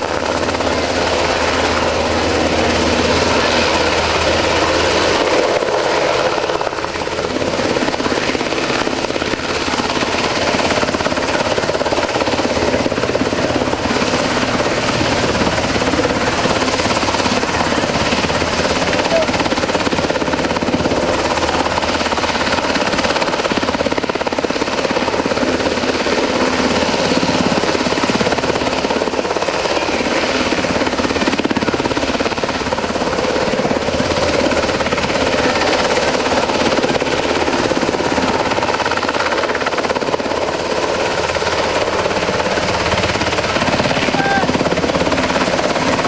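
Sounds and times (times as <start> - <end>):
turbine engine whine: 0.0 - 32.8, 33.6 - 46.0
helicopter rotors chopping: 0.0 - 46.0.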